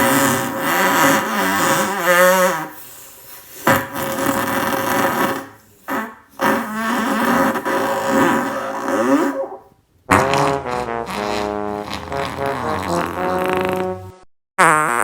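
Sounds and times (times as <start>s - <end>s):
long fart: 0.0s - 2.8s, 3.6s - 15.0s.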